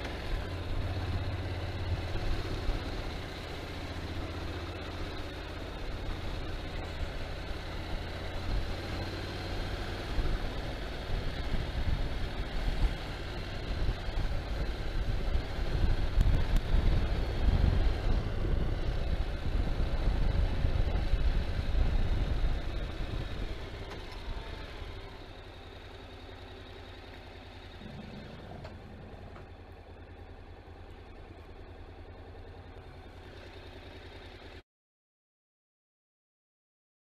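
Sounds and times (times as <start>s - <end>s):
motorcycle engine: 0.0s - 34.6s.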